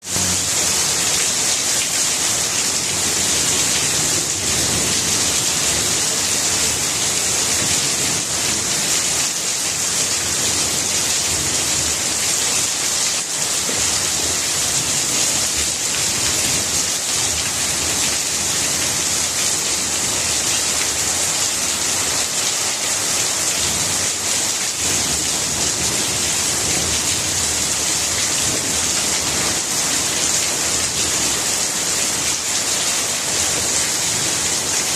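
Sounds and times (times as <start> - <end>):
rain falling on plants: 0.0 - 34.9.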